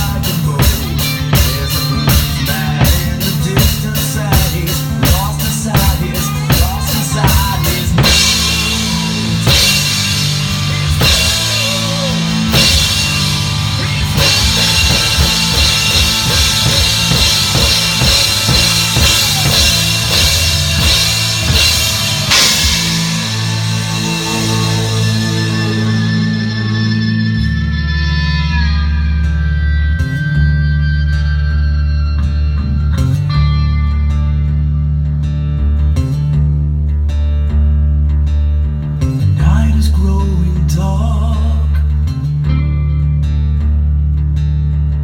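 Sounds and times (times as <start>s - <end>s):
heavy metal band playing: 0.0s - 36.5s.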